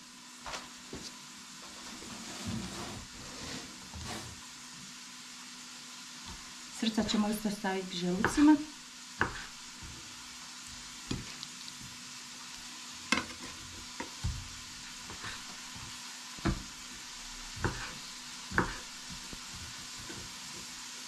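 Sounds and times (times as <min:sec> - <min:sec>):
onion frying in oil: 0:00.0 - 0:21.0.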